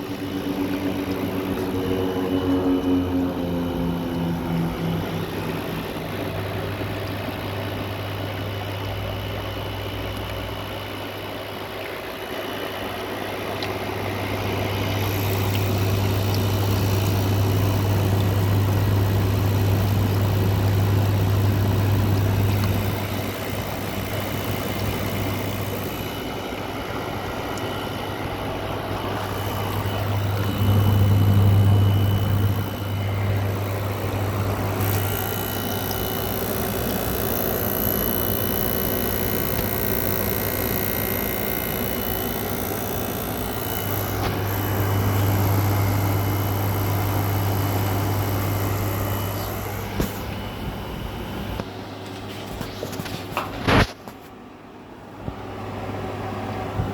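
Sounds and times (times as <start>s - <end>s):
compressor hum: 0.0s - 56.9s.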